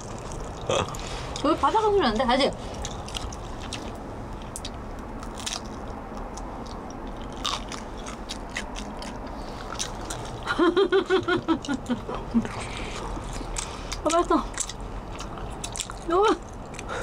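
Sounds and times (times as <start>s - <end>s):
biting and chewing: 0.0s - 1.6s, 2.6s - 17.0s.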